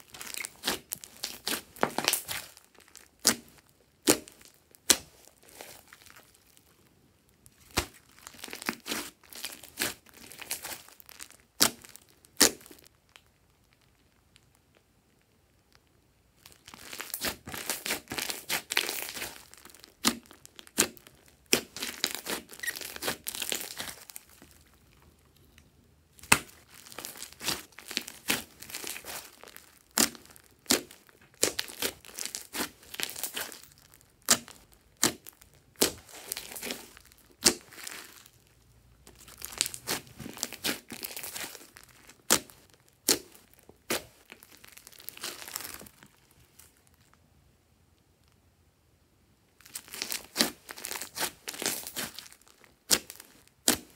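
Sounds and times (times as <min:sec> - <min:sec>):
slime crackling: 0:00.0 - 0:14.8, 0:16.4 - 0:47.1, 0:49.6 - 0:53.9.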